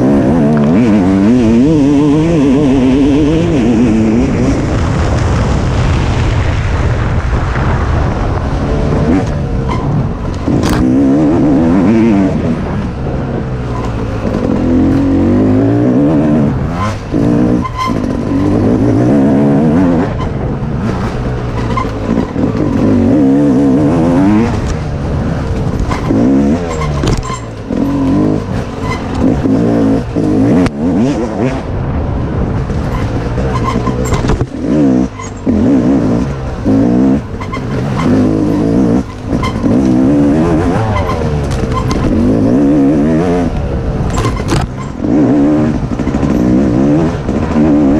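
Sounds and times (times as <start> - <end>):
dirt bike engine revving: 0.0 - 4.9, 8.4 - 31.9, 32.8 - 47.9.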